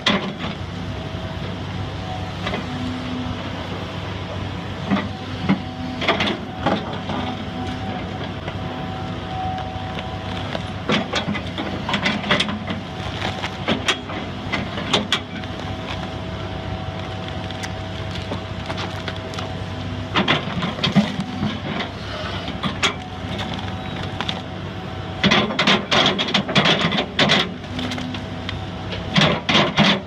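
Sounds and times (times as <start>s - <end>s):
heavy machine engine running: 0.0s - 30.0s.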